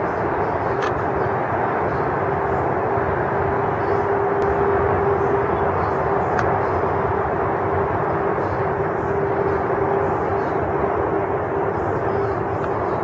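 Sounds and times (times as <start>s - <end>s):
constant hum: 0.0s - 13.0s
steady outdoor rumble: 0.0s - 13.0s.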